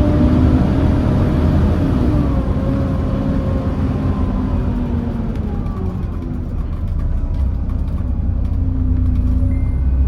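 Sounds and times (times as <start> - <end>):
bus diesel engine rumbling: 0.0 - 10.0.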